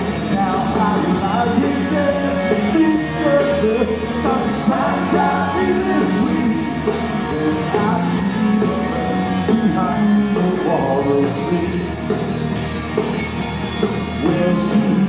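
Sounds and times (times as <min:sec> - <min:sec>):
man singing: 0:00.0 - 0:12.0, 0:14.2 - 0:15.0
live rock band playing: 0:00.0 - 0:15.0.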